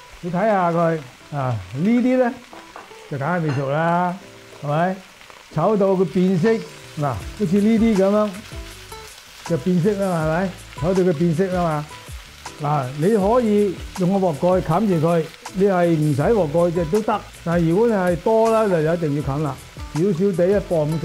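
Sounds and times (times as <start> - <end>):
vegetables sizzling in a wok: 0.0 - 21.0
man talking: 0.2 - 2.5, 3.1 - 8.5, 9.5 - 11.9, 12.6 - 21.0.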